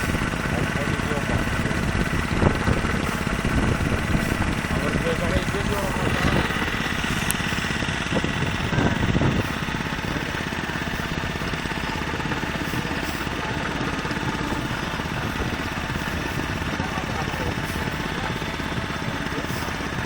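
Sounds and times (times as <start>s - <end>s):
boat engine chugging: 0.0s - 20.0s.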